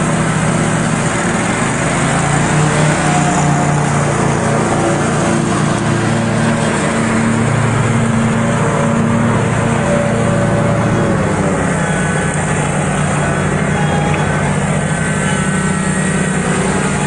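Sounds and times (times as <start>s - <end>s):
lawn mower engines running: 0.0s - 17.0s.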